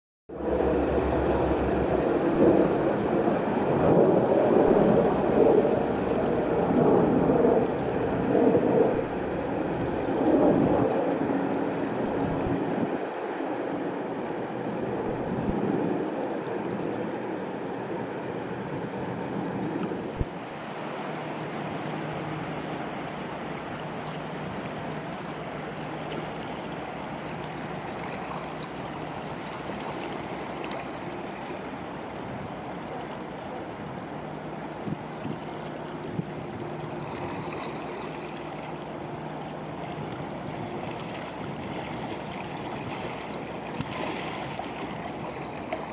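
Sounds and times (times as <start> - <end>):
river water lapping: 0.3 - 45.9
ship engines humming: 0.3 - 45.9.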